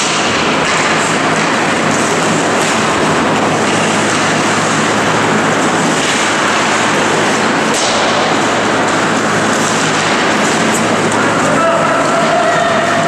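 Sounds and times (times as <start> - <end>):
constant low hum: 0.0 - 13.0
ice rink crowd noise: 0.0 - 13.0.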